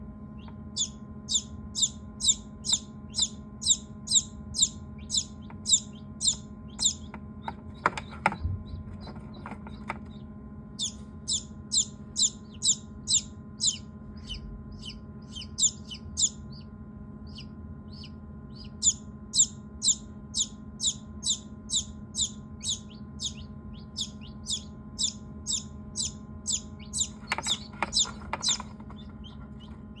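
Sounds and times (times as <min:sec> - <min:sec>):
steady low hum: 0:00.0 - 0:30.0
small bird chirping: 0:00.4 - 0:30.0.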